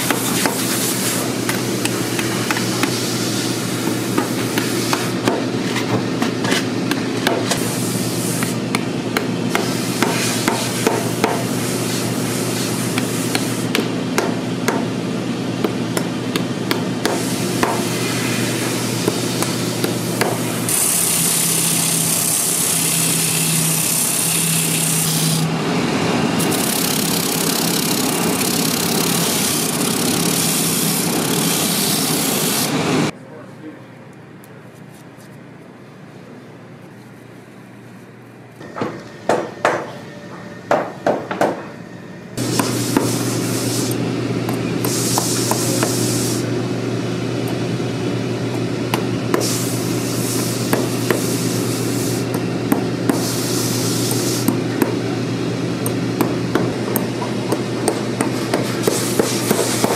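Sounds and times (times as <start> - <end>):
machine hum: 0.0 - 33.2, 38.4 - 59.9.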